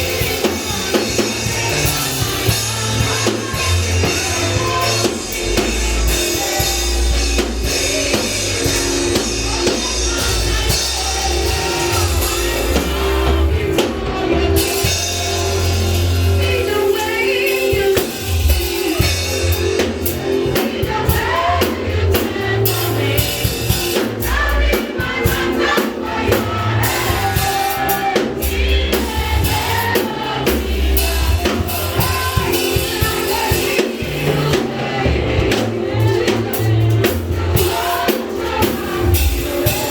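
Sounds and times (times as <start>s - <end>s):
voices singing: 0.0s - 39.9s
worship band playing: 0.0s - 39.9s.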